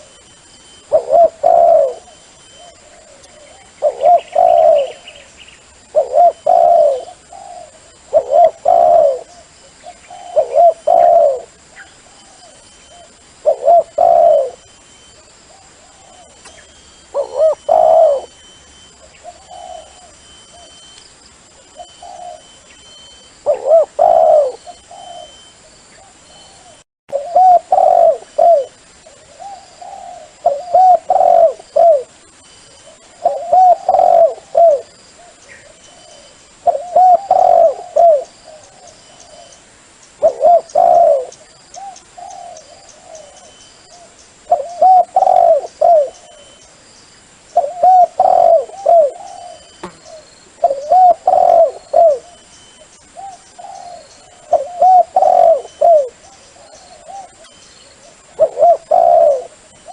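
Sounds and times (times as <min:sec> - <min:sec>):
dove cooing: 0:00.0 - 0:20.9, 0:21.6 - 0:39.6, 0:40.2 - 0:46.8, 0:47.5 - 0:59.9.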